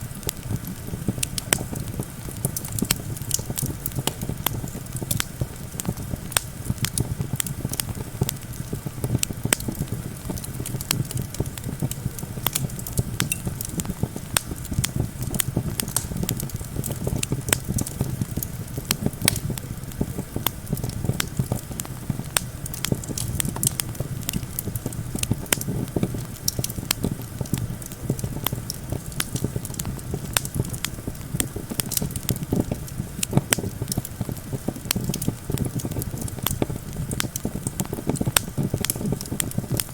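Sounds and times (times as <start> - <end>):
campfire crackling and popping: 0.0 - 39.9
low rumble of wind: 0.0 - 39.9.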